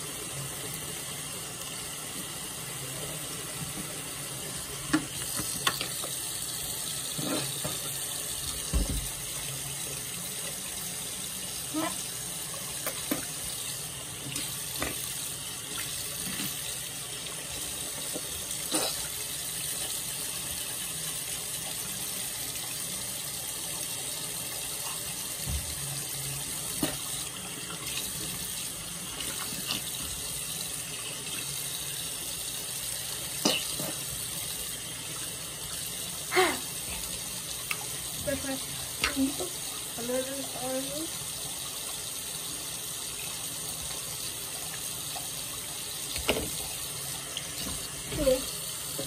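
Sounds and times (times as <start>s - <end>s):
faucet running into sink: 0.0s - 49.0s.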